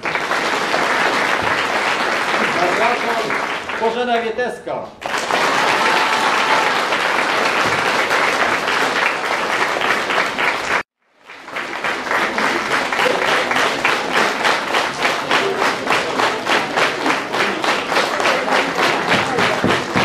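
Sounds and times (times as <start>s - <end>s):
audience applauding: 0.0s - 4.2s, 5.0s - 20.0s
rhythmic clapping in unison: 0.0s - 4.3s, 5.0s - 20.0s.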